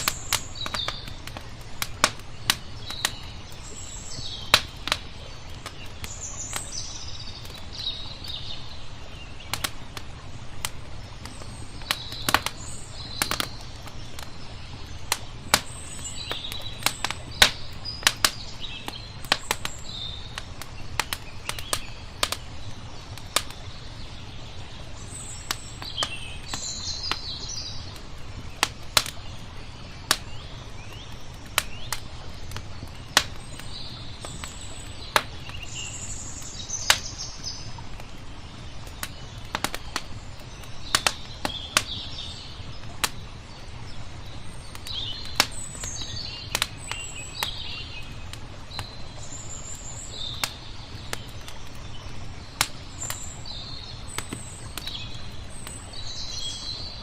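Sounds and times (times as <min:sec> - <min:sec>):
rushing water: 0:00.0 - 0:57.0
small birds chirping: 0:00.0 - 0:57.0
wood fire crackling and popping: 0:00.0 - 0:57.0.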